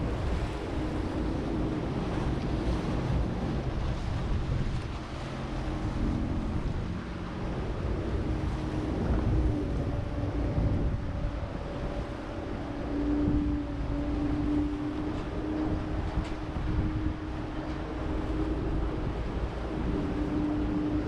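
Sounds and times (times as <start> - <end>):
boat engine running: 0.0 - 21.0
water wash: 0.0 - 21.0
wind buffeting microphone: 0.0 - 21.0.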